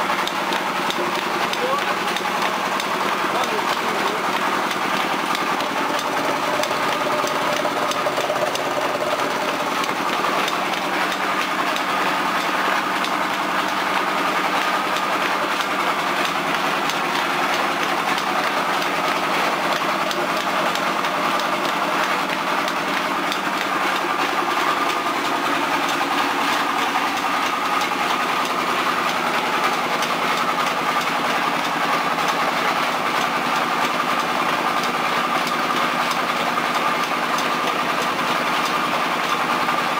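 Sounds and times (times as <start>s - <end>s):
fast mechanical rattle: 0.0s - 39.9s
flour mill machinery drone: 0.0s - 39.9s.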